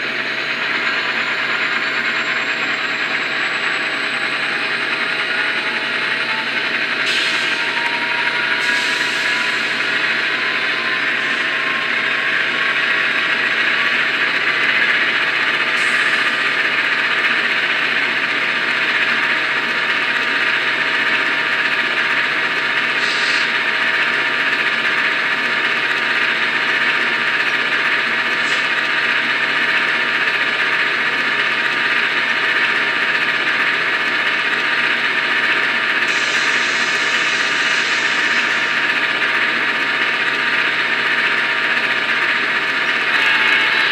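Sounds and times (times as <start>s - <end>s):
whining tones: 0.0s - 43.9s.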